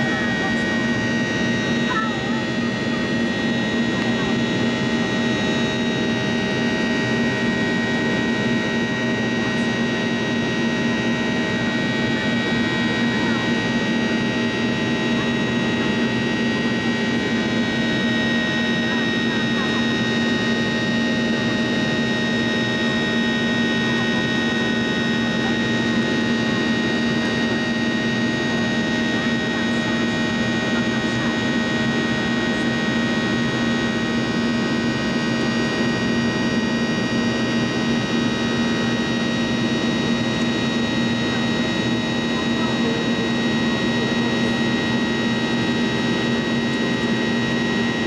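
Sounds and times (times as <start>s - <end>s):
jet engine drone in cabin: 0.0s - 48.0s.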